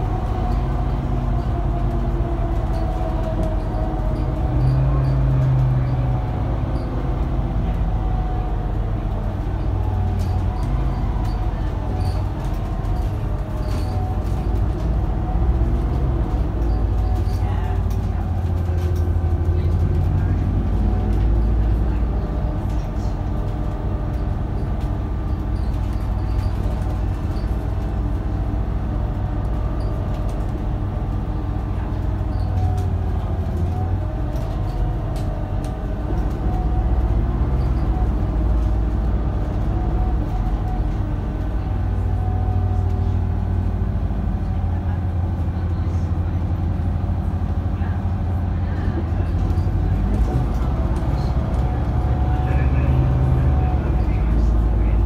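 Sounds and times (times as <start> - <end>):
bus engine drone: 0.0 - 55.0
road and body rattle: 0.0 - 55.0.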